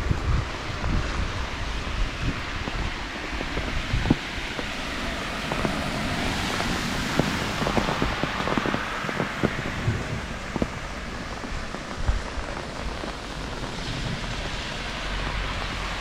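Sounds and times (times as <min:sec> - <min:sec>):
rain falling: 0:00.0 - 0:16.0
raindrops tapping surfaces: 0:00.0 - 0:16.0.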